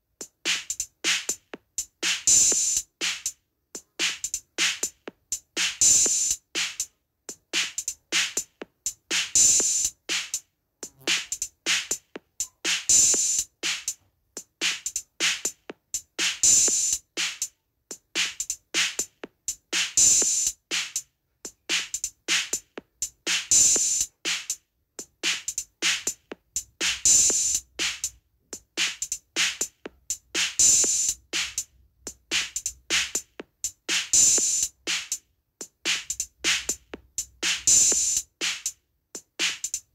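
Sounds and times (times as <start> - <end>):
looped drum rhythm: 0.0 - 39.9.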